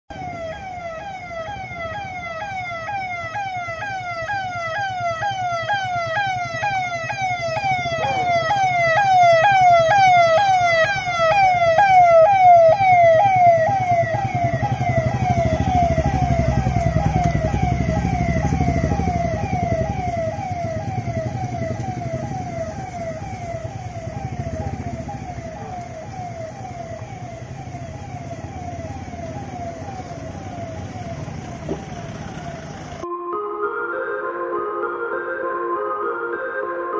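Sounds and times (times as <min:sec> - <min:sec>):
vehicle engines rumbling: 0:00.1 - 0:33.0
electronic siren wailing: 0:00.1 - 0:36.9.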